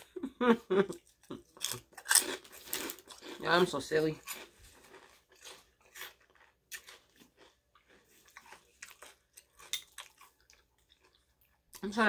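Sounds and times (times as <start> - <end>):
crunching potato chips: 1.5 - 11.9.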